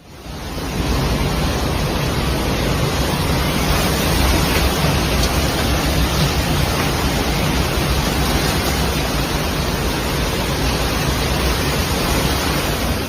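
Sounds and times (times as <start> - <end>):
floodwater rushing in a river: 0.0 - 13.0.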